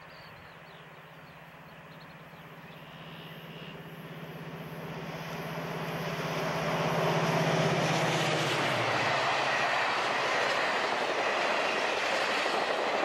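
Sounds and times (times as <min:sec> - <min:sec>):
diesel locomotive engine drone: 0:00.0 - 0:13.0
wheels rushing on rail: 0:00.0 - 0:13.0.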